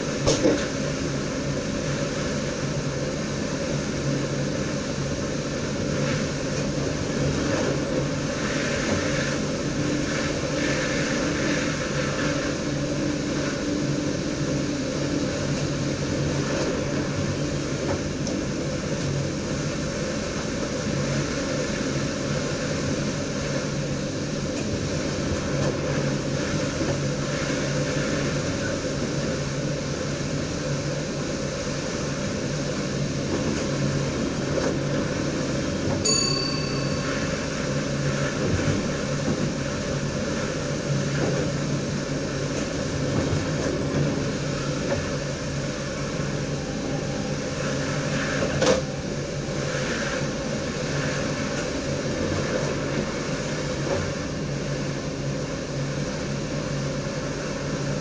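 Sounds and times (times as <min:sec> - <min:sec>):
train rolling and air noise: 0:00.0 - 0:58.0.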